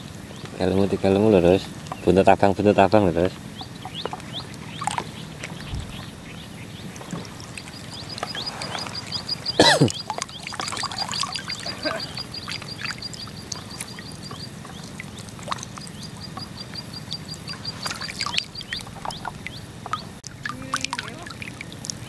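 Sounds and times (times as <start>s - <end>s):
small water splashes: 0.0s - 22.0s.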